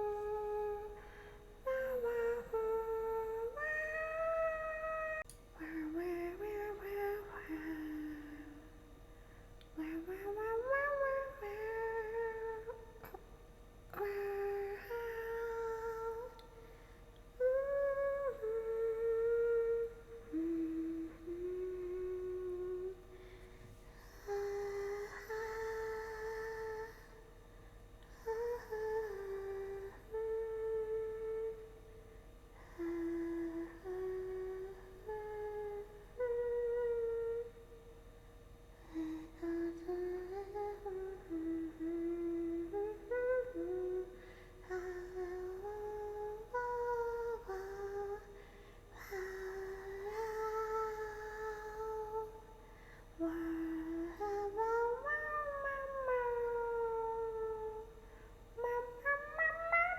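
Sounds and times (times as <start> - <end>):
woman humming: 0.0 - 8.9, 9.6 - 16.6, 17.4 - 27.3, 28.0 - 38.0, 38.8 - 52.6, 53.2 - 59.9.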